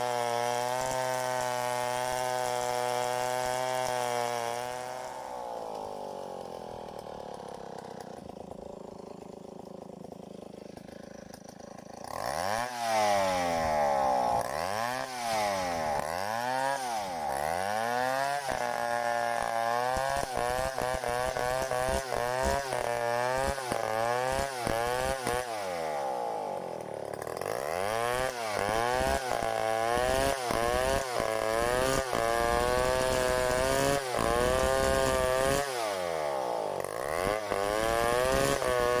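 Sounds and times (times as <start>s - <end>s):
chainsaw idling and revving: 0.0s - 39.0s.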